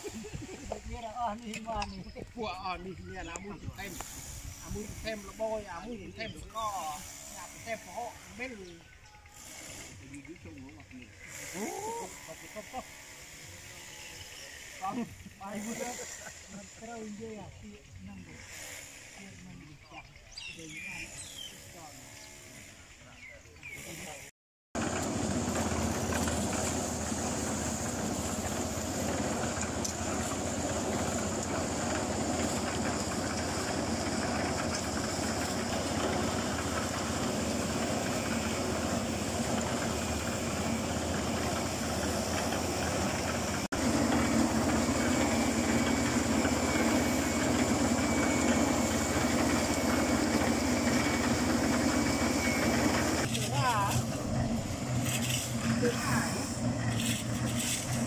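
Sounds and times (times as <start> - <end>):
concrete mixer engine drone: 0.0 - 58.0.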